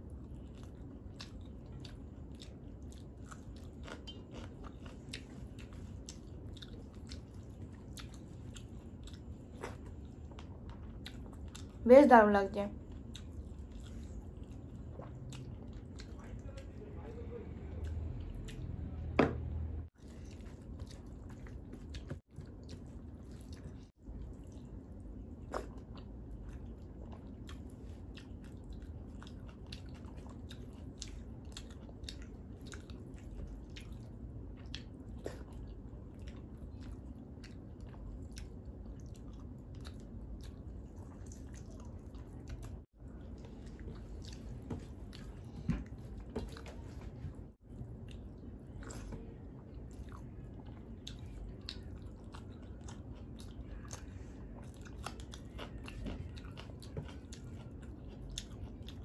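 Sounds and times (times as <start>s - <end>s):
chewing and wet mouth clicks: 0.4s - 11.8s, 12.9s - 16.7s, 17.6s - 18.8s, 25.4s - 45.4s, 48.0s - 59.0s.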